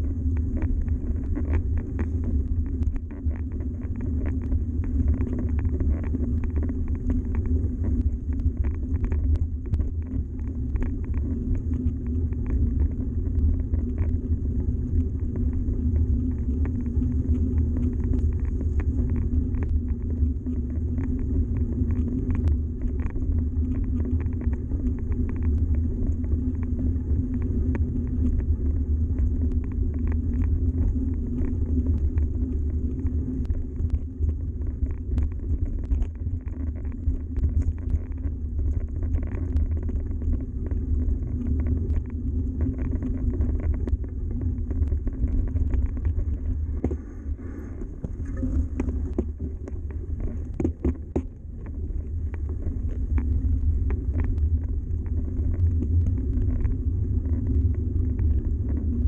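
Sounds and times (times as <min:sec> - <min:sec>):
bike rolling over gravel: 0:00.1 - 0:59.0.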